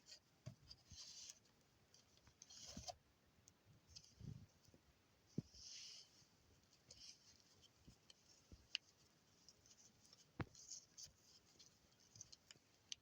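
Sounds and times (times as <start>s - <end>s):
soft rustles of handling: 0.0s - 13.0s.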